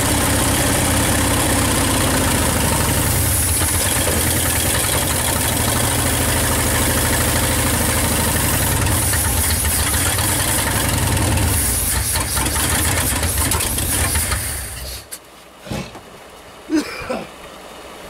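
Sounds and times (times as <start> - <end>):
car engine running without muffler: 0.0 - 15.0.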